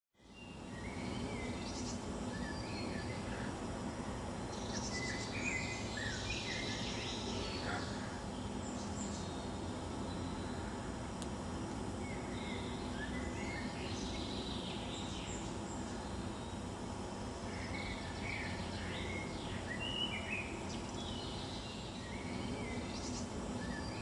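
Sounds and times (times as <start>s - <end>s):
birds chirping: 0.2s - 11.0s, 11.8s - 24.0s
steady outdoor background noise: 0.2s - 24.0s.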